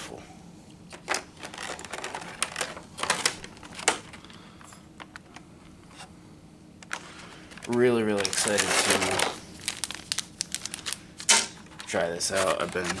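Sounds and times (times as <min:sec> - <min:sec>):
plastic blister trays crinkling: 0:00.9 - 0:05.5, 0:06.8 - 0:13.0.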